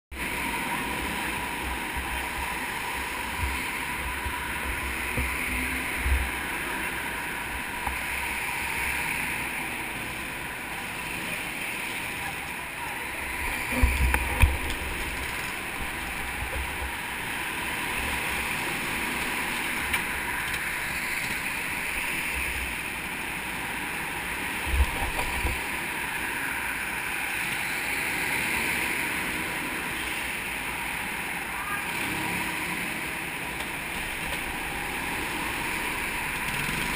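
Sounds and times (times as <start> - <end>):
go-kart engines running: 0.1 - 36.9.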